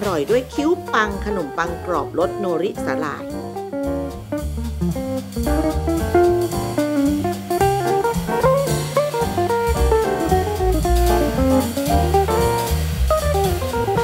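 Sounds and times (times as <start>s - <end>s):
drum kit beat: 0.0s - 14.0s
guitar: 0.0s - 14.0s
upbeat jazzy tune: 0.0s - 14.0s.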